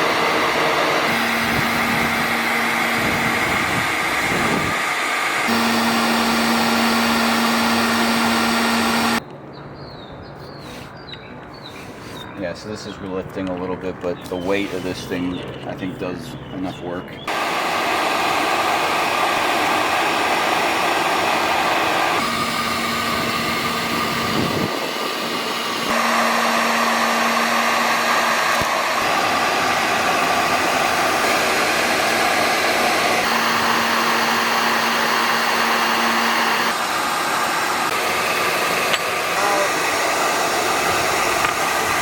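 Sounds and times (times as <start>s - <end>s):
router cutting metal sheet: 0.0s - 9.2s, 17.3s - 42.0s.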